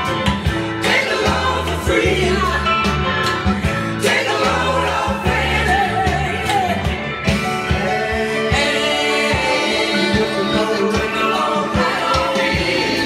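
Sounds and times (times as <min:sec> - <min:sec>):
song with singer and band: 0:00.0 - 0:13.0.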